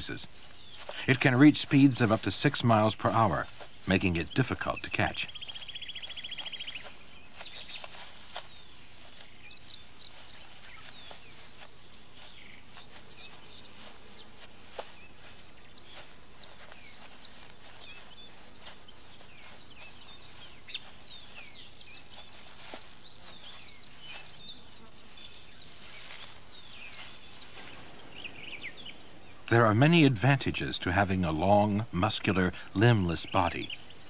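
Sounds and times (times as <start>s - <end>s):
falling bird chirps: 0.0s - 30.7s
trilling insect chorus: 0.0s - 34.0s.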